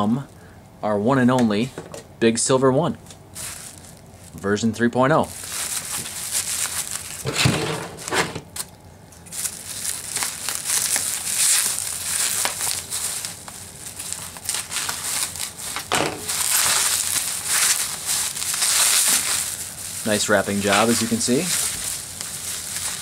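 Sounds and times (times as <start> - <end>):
bubble wrap crinkling: 3.3 - 23.0.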